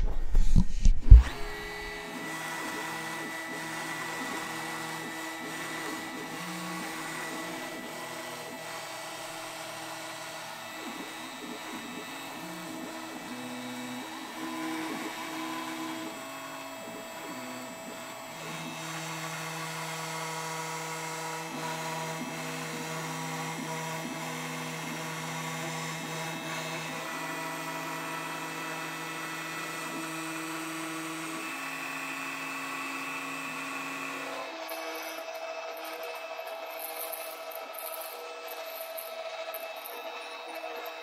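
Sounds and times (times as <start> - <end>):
cnc router spindle carving ice: 0.0 - 41.0
stepper motors whining: 0.0 - 41.0.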